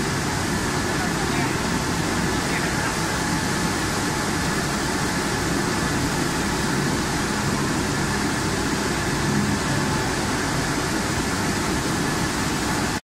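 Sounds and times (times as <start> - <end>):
machinery hum: 0.0 - 13.0
water tank bubbling and rushing: 0.0 - 13.0.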